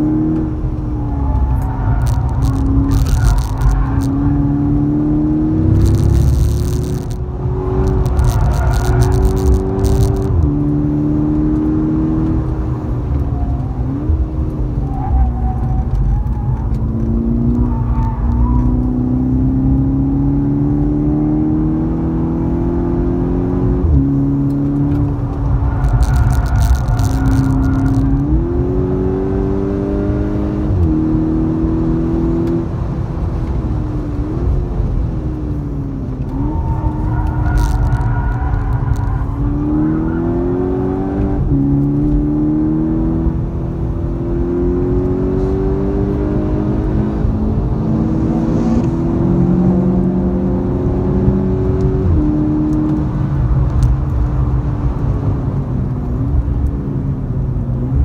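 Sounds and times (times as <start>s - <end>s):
car engine accelerating: 0.0s - 58.0s
tyre and wind noise: 0.0s - 58.0s.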